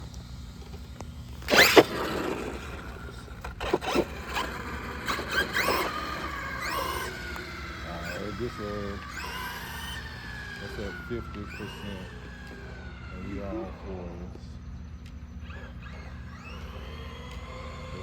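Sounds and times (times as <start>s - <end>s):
electric motor whining in bursts: 0.0s - 18.0s.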